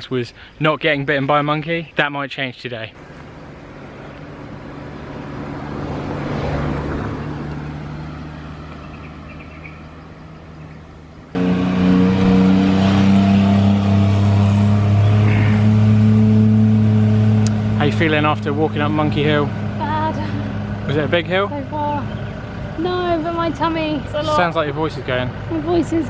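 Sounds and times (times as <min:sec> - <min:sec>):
engine running close by: 0:03.0 - 0:26.0
vehicle passing: 0:03.0 - 0:26.0.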